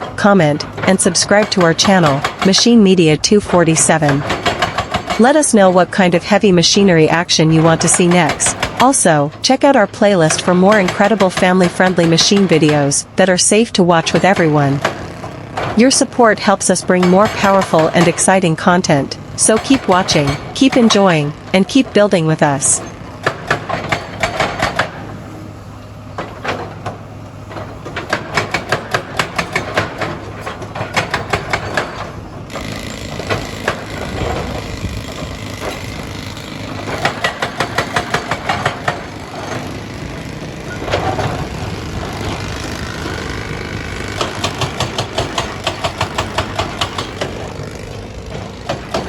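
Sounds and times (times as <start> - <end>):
rapid sharp knocks and clatter: 0.0 - 6.3, 7.6 - 13.1, 14.0 - 15.8, 16.8 - 22.0, 22.8 - 25.2, 26.2 - 49.0
diesel engine drone: 0.0 - 49.0.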